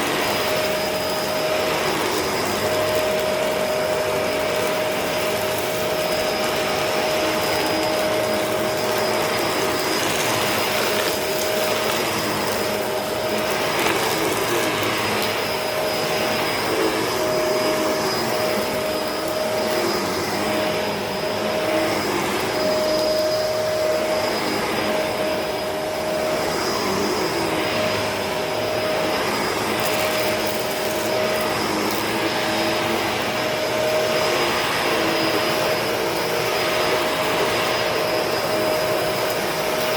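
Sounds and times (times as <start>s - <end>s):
vacuum cleaner whining on carpet: 0.0s - 39.9s.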